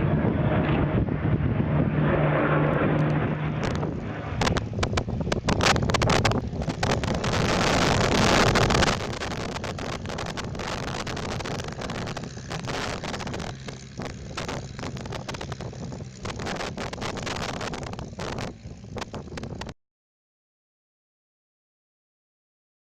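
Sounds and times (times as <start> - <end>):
wind buffeting microphone: 0.0 - 19.7
propeller plane engine in flight: 0.0 - 19.8.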